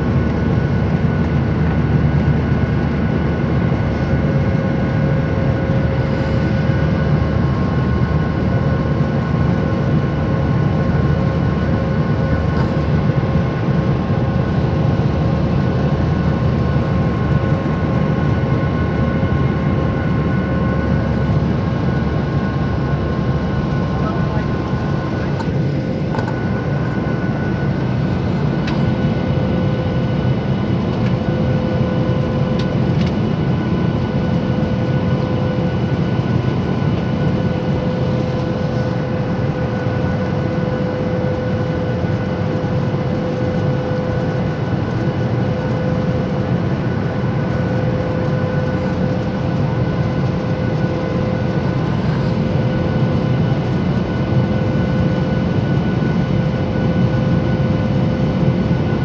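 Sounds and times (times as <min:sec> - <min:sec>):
jet engines and rushing air: 0:00.0 - 0:59.0.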